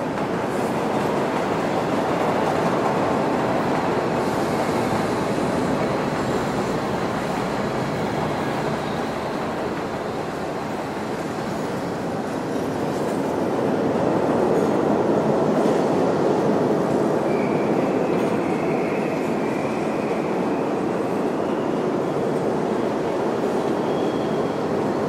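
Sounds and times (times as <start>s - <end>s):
subway train rumble: 0.0s - 25.0s.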